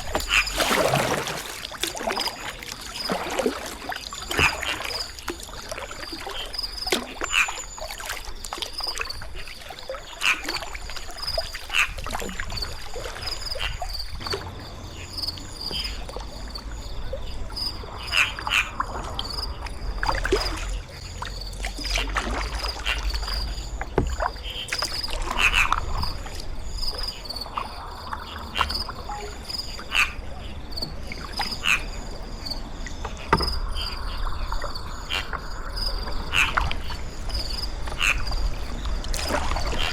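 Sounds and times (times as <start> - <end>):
kayak paddle splashing in water: 0.0 - 30.2, 32.8 - 39.9.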